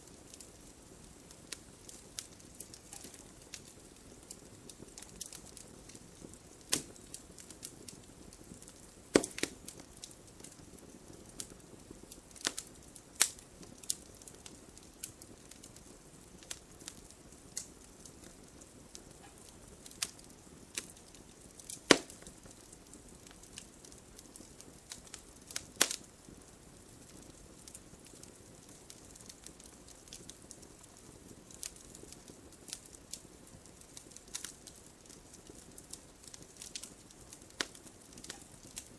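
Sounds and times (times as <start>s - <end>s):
campfire crackling and popping: 0.0s - 38.9s
faint steady hiss: 0.0s - 38.9s.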